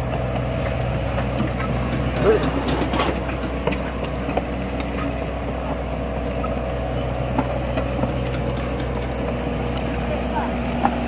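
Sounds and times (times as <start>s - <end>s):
mini excavator running: 0.0s - 11.0s.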